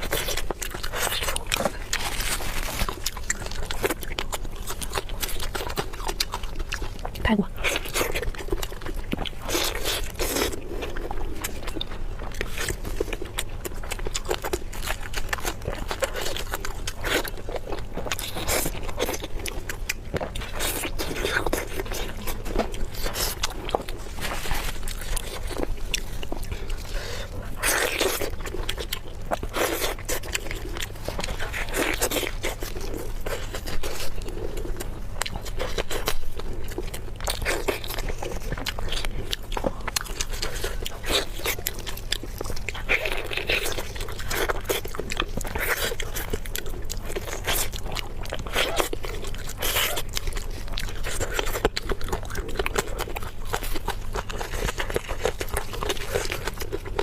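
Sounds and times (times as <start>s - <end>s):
biting and crunching food: 0.0s - 57.0s
steady low hum: 0.0s - 57.0s.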